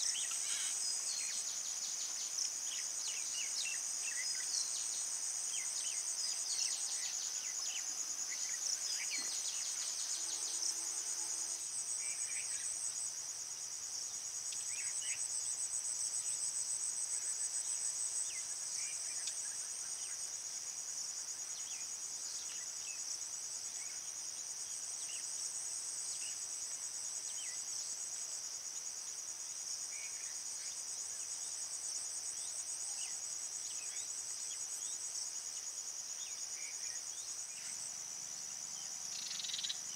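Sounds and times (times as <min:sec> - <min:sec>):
insects trilling chorus: 0:00.0 - 0:39.9.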